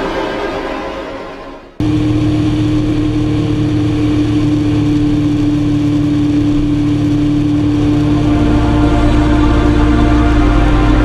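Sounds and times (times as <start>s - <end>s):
motorcycle engine droning: 1.8s - 11.0s.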